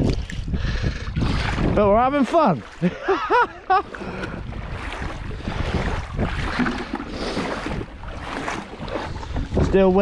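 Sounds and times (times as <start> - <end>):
water sloshing and splashing: 0.0 - 10.0
wind buffeting microphone: 0.0 - 10.0.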